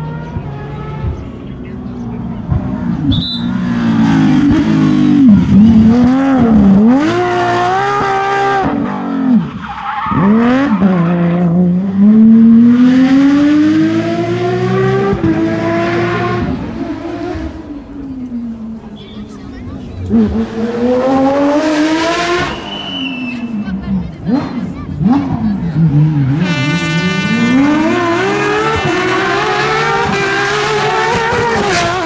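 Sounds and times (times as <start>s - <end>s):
rally car engine revving hard: 0.0s - 18.9s, 19.6s - 32.0s.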